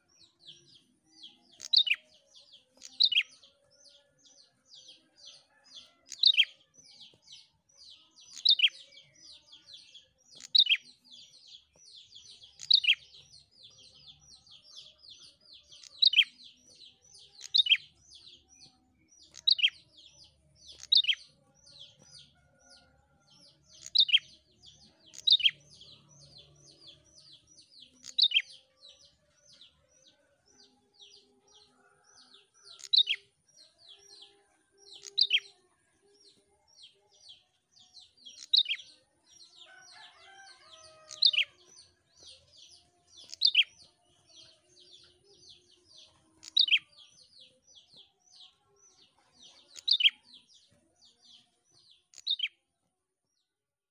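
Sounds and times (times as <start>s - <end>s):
songbird chirping: 0.0s - 53.6s.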